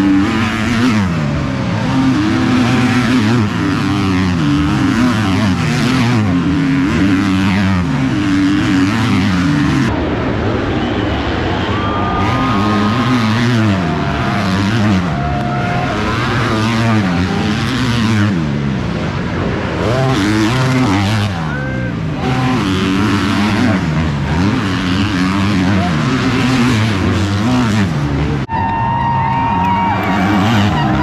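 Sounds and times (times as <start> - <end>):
motocross bikes revving: 0.0 - 31.0.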